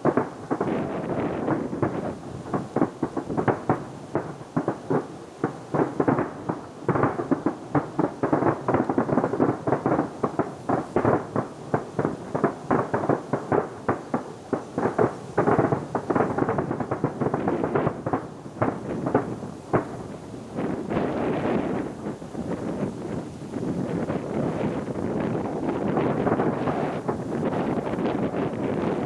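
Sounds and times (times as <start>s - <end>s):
firework shells bursting: 0.0s - 29.0s.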